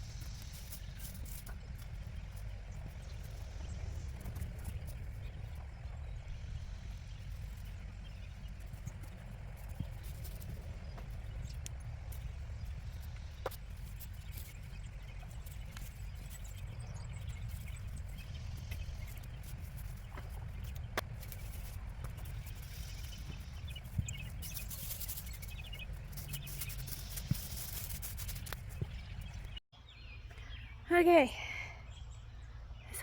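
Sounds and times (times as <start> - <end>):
steady low rumble: 0.0 - 29.6.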